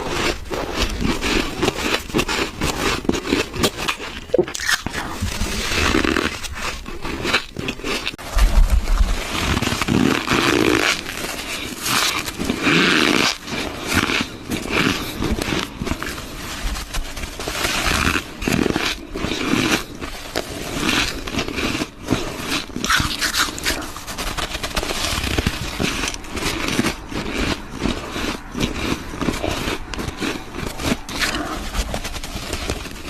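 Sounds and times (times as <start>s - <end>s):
biting crunchy ice: 0.0s - 8.2s, 9.3s - 16.6s, 17.5s - 33.0s.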